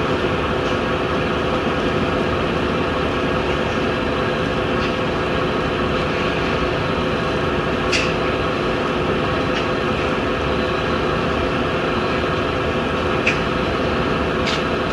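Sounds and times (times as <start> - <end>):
boiler humming: 0.0 - 14.9.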